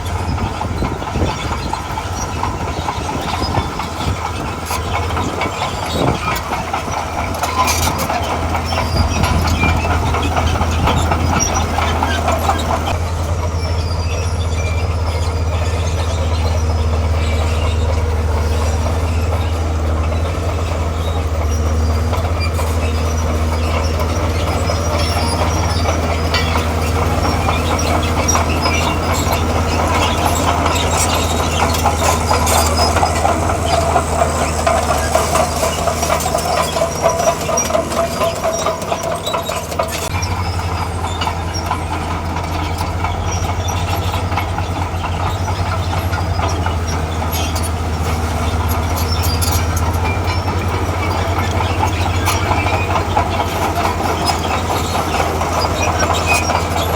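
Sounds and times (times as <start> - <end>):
diesel engine under load: 0.0 - 56.9
steel tracks clattering: 0.0 - 56.9
tracks squealing: 0.0 - 56.9.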